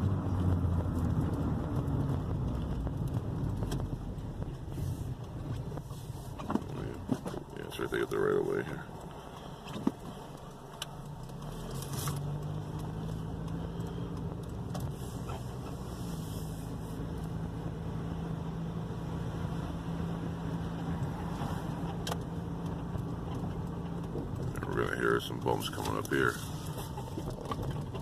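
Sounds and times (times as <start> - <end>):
car engine drone: 0.0 - 28.0
road noise inside car: 0.0 - 28.0.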